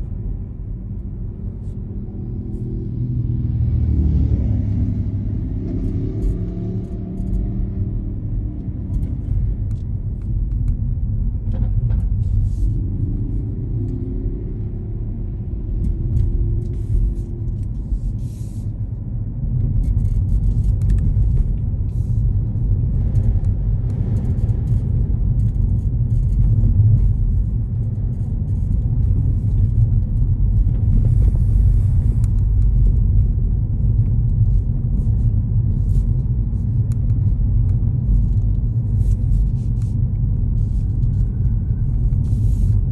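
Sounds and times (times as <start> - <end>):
car road rumble: 0.0 - 42.9.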